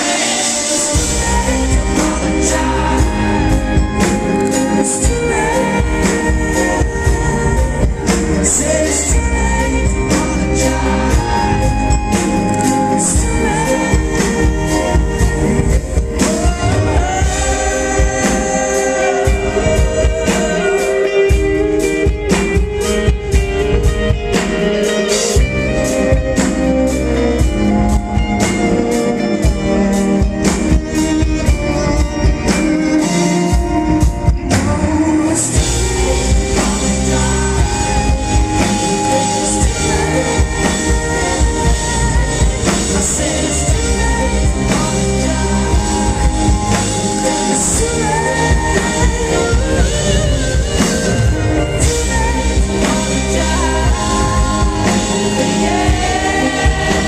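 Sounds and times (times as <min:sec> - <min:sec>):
drum kit: 0:00.0 - 0:57.0
keyboard: 0:00.0 - 0:57.0
person singing: 0:00.0 - 0:57.0.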